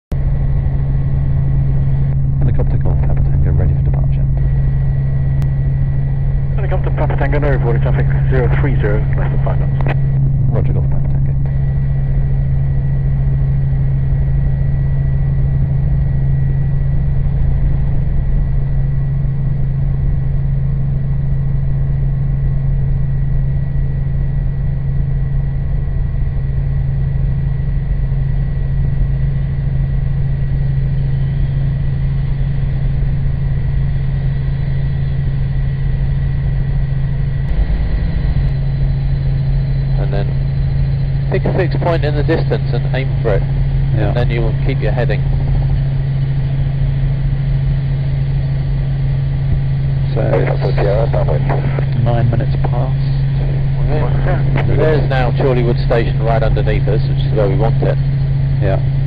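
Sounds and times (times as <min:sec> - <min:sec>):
helicopter engine and rotor drone: 0:00.1 - 0:59.0.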